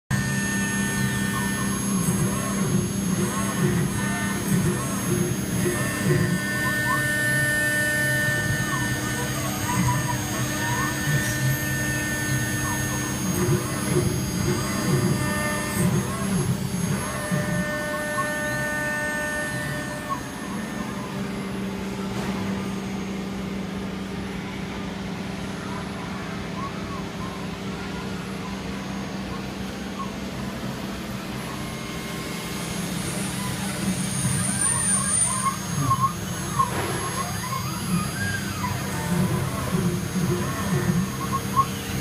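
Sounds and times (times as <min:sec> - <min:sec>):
engraving machine humming and whining: 0:00.1 - 0:42.0.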